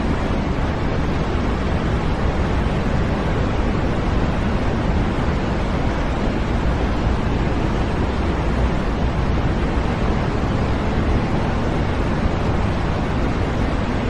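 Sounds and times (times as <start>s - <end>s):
white noise hiss: 0.0s - 14.0s.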